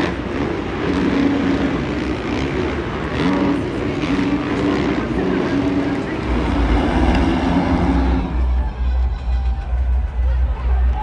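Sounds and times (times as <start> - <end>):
dirt bike engines racing: 0.0 - 11.0.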